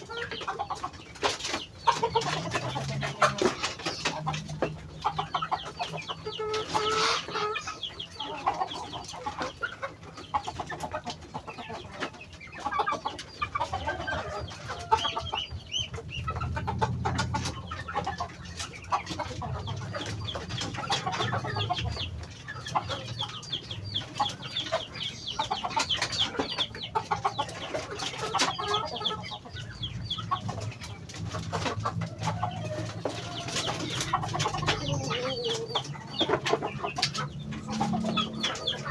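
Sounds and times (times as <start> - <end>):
ducks chirping: 0.0 - 38.9.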